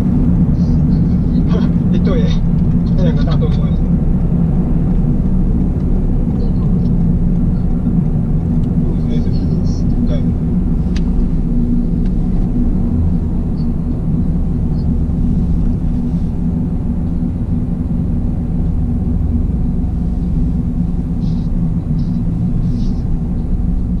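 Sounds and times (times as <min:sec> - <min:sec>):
car engine droning: 0:00.0 - 0:24.0
road noise: 0:00.0 - 0:24.0.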